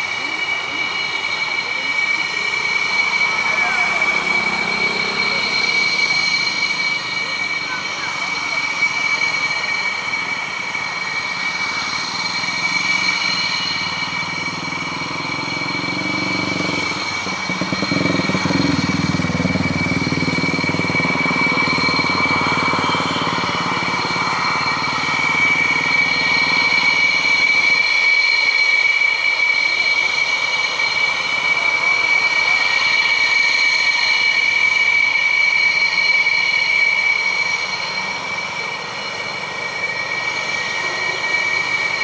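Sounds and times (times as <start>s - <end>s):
jet engine rushing noise: 0.0s - 42.0s
jet engine whine: 0.0s - 42.0s.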